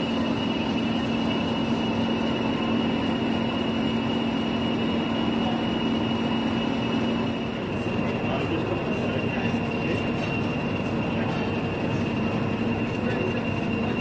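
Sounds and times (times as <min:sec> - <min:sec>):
diesel locomotive idling: 0:00.0 - 0:14.0
high turbocharger whistle: 0:00.0 - 0:14.0.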